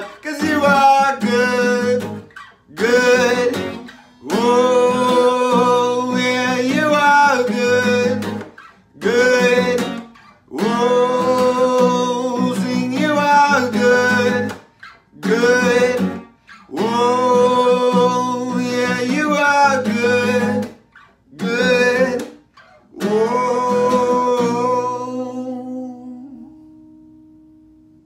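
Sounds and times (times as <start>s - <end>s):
man singing long notes: 0.0s - 8.4s, 9.0s - 14.6s, 15.2s - 20.7s, 21.3s - 26.7s
strummed acoustic guitar: 0.0s - 28.0s.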